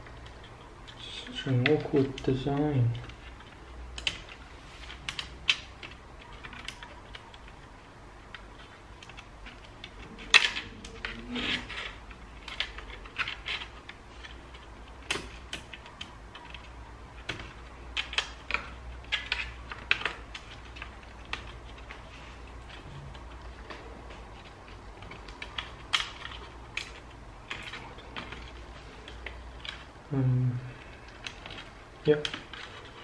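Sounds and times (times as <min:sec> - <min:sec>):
fingers clicking on plastic chassis: 0:00.0 - 0:30.0.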